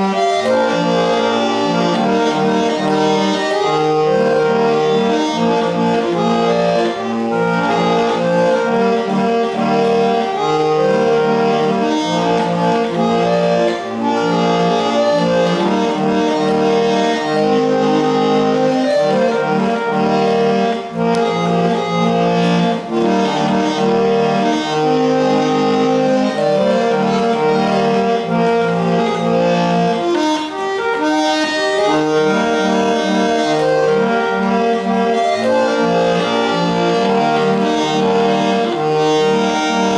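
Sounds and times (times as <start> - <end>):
barrel organ playing tune: 0.0 - 39.9.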